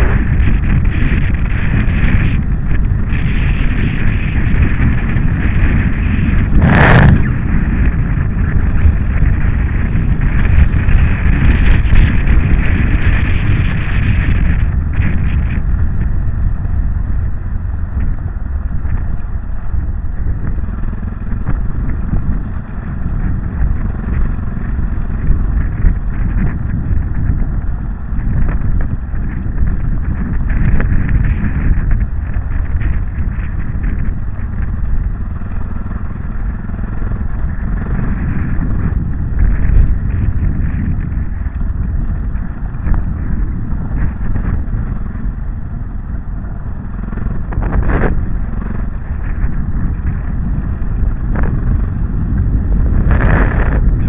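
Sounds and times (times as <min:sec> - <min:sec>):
motorcycle engine running: 0:00.0 - 0:54.0
wind rumble on microphone: 0:00.0 - 0:54.0.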